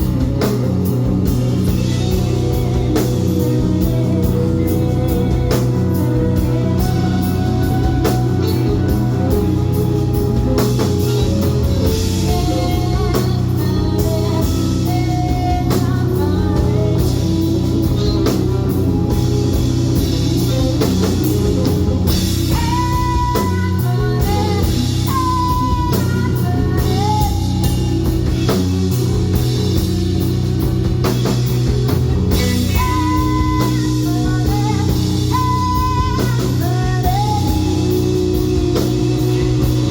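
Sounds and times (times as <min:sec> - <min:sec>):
held bending melody notes: 0:00.0 - 0:39.9
rock band playing: 0:00.0 - 0:39.9.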